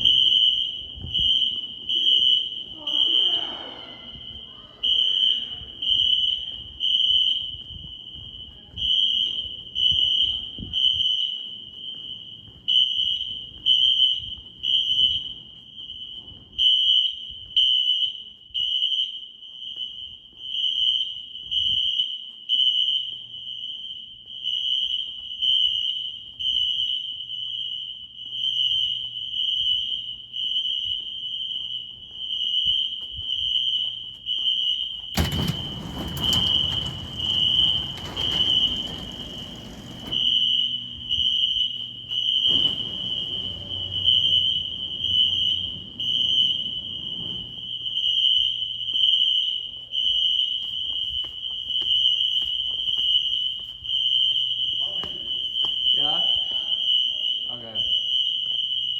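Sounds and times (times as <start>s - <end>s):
fire alarm horns beeping: 0.0s - 58.9s.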